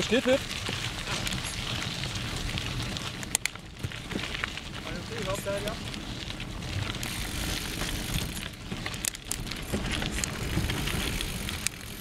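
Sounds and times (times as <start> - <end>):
bike knocks and rattles: 0.0 - 12.0
bike tyres on dirt: 0.0 - 12.0.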